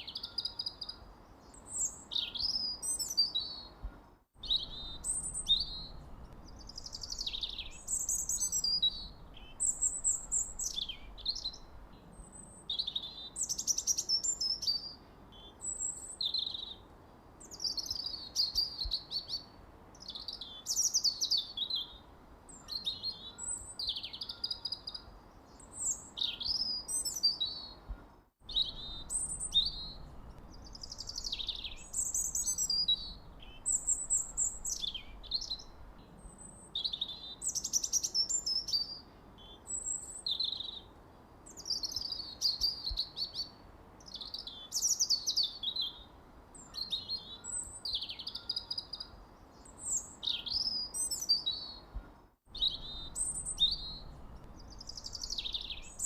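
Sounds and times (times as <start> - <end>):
faint background hiss: 0.0 - 56.0
songbirds chirping: 0.0 - 56.0.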